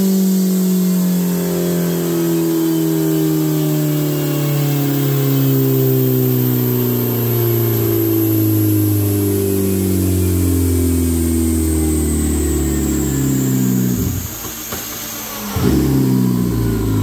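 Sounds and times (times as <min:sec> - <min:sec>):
motorcycle engine winding down: 0:00.0 - 0:17.0.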